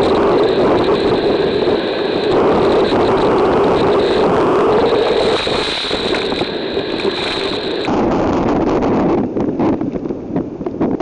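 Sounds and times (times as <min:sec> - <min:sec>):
driving rain: 0:00.0 - 0:11.0
hurricane wind: 0:00.0 - 0:11.0.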